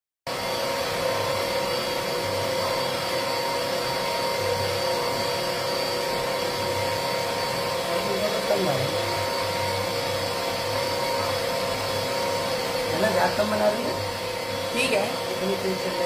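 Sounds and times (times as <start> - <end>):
small washing machine humming: 0.3 - 16.0.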